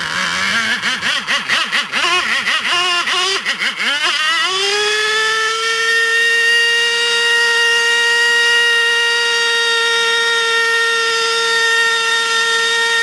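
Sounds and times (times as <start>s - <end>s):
model glow engine whining: 0.0s - 13.0s.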